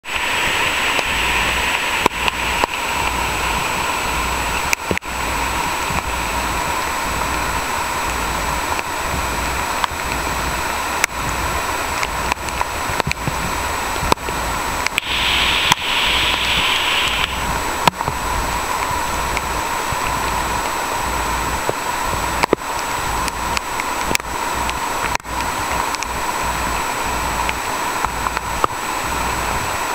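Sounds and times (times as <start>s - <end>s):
heavy rain on foliage: 0.0s - 29.9s
stream rushing: 0.0s - 29.9s.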